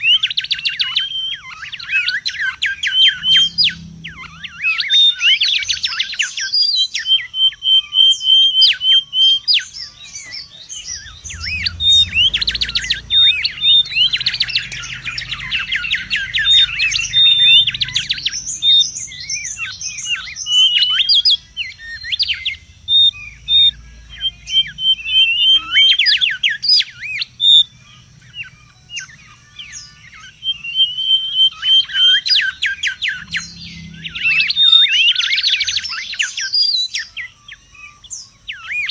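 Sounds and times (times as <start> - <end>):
bird whistles and trills: 0.0 - 38.9.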